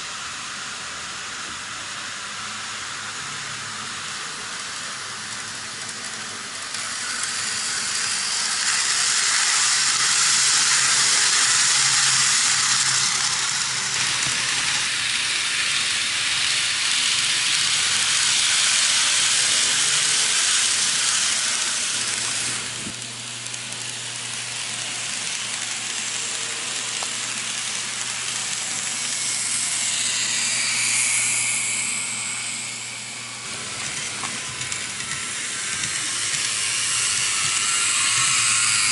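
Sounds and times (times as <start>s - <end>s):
model train wheels rattling: 4.1s - 38.9s.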